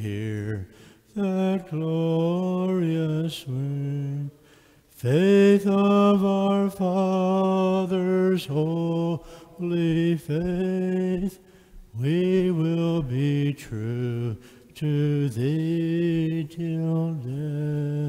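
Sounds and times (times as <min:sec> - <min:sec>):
man singing a slow hymn: 0:00.0 - 0:18.0.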